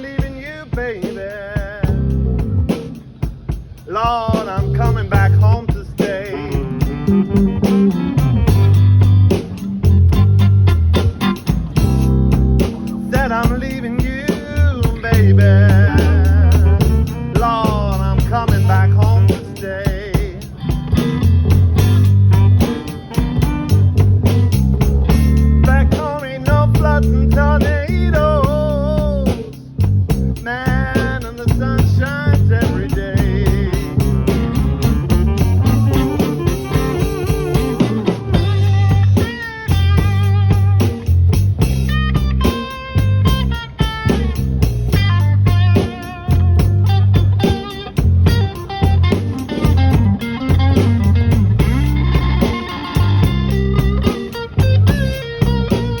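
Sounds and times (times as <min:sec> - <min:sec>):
bass guitar: 0:00.0 - 0:56.0
drums: 0:00.0 - 0:56.0
electric guitar bending notes: 0:00.0 - 0:56.0.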